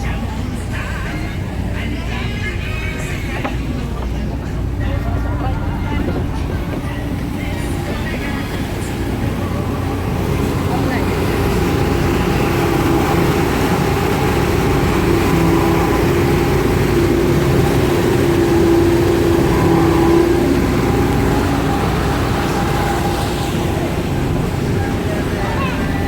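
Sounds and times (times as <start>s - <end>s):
engine running with hum: 0.0s - 26.0s.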